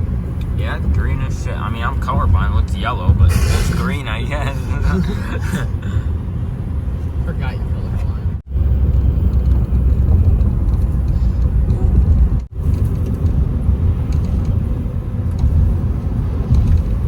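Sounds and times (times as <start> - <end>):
car road rumble inside cabin: 0.0 - 17.0.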